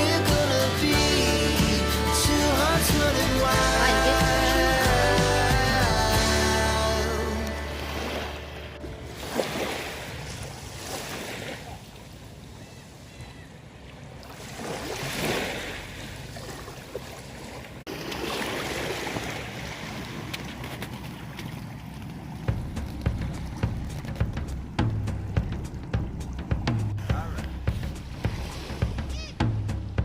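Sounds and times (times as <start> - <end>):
sea waves washing ashore: 0.0 - 30.0.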